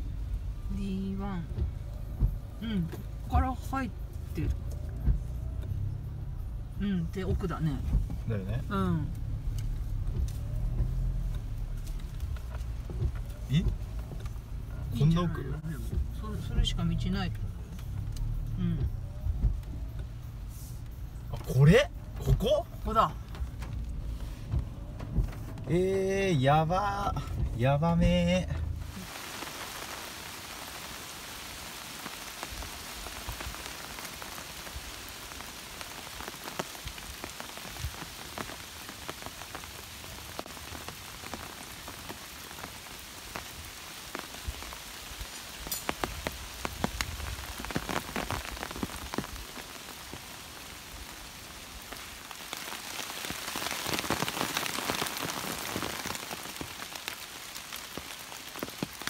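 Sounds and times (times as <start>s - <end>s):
sharp raindrop hits: 0.0s - 59.0s
steady rain falling: 0.0s - 59.0s.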